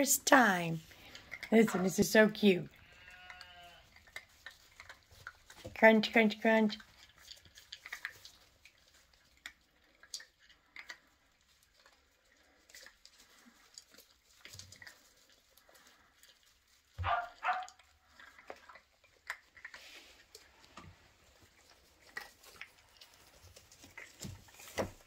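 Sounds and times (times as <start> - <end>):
puppies crunching kibble: 0.0 - 25.0.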